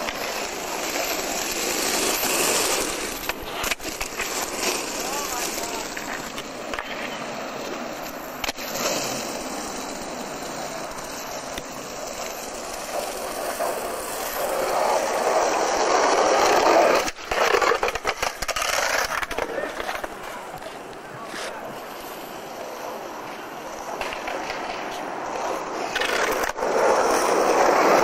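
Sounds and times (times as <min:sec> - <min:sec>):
skateboard wheels rolling on asphalt: 0:00.0 - 0:28.0.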